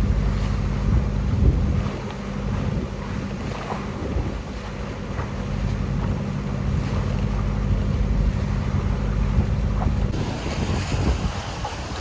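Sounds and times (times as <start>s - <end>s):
boat engine hum: 0.0s - 12.0s
rushing water: 0.0s - 12.0s
wind on microphone: 0.0s - 12.0s.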